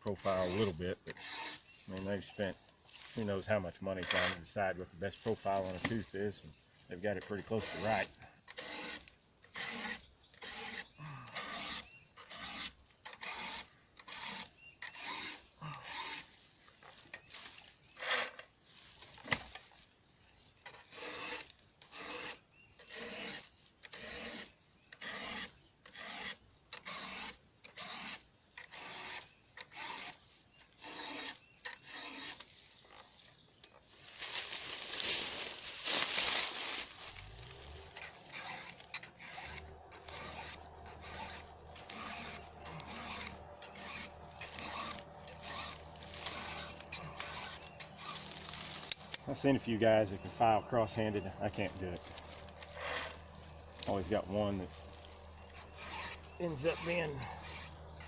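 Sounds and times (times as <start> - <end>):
file rasping on chainsaw chain: 0.1 - 17.2, 17.9 - 18.5, 20.6 - 33.0, 34.3 - 58.0.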